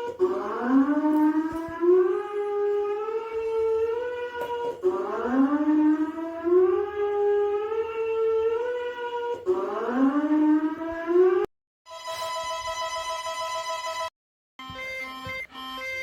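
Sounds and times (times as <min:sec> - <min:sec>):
emergency alert siren tones: 0:00.0 - 0:16.0.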